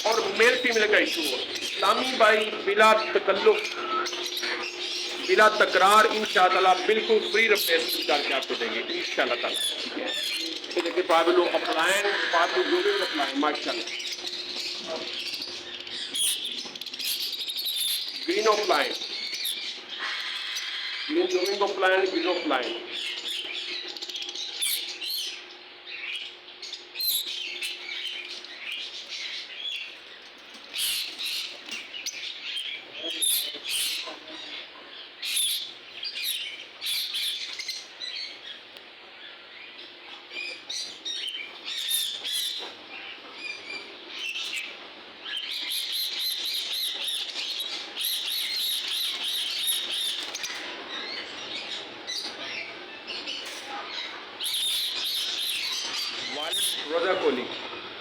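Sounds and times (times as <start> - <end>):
lovebirds chattering: 0.0 - 58.0.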